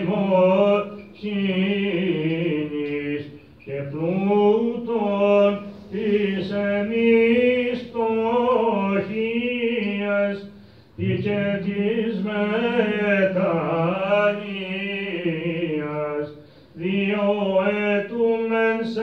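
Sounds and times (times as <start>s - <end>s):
man chanting a hymn: 0.0s - 19.0s.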